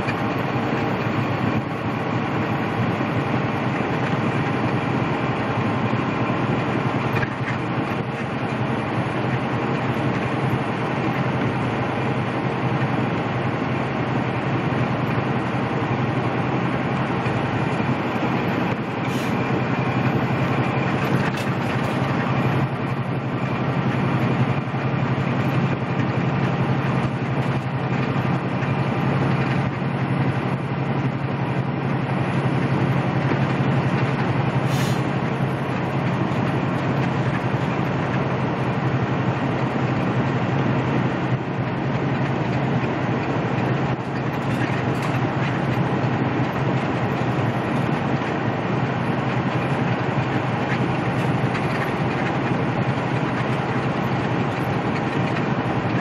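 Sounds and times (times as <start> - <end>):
truck engine drone: 0.0 - 56.0
tyres on wet pavement: 0.0 - 56.0.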